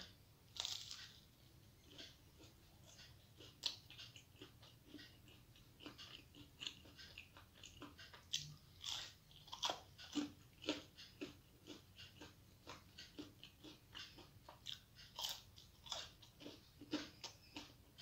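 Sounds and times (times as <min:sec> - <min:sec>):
person chewing crispy food: 0:00.5 - 0:18.0.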